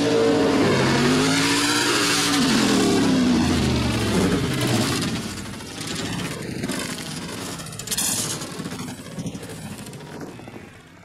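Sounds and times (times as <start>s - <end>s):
truck engine: 0.0s - 11.0s.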